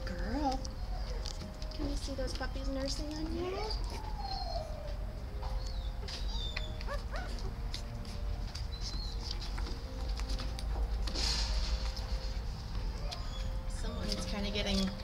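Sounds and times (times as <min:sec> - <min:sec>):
puppies squeaking: 0:00.0 - 0:10.6, 0:11.7 - 0:15.0.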